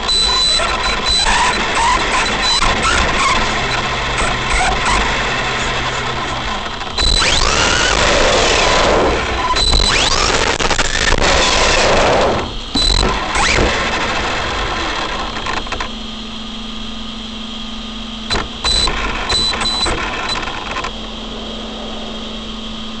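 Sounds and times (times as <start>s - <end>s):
short bursts of noise: 0.0s - 15.8s, 18.3s - 21.4s
electric motor whine: 0.0s - 23.0s.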